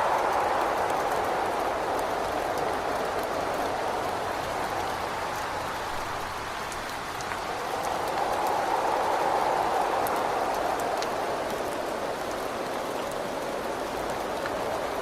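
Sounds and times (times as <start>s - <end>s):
rain and wind against window: 0.0s - 15.0s.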